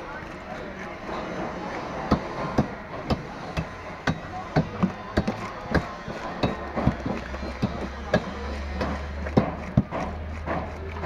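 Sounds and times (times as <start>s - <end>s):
market chatter: 0.0s - 11.0s.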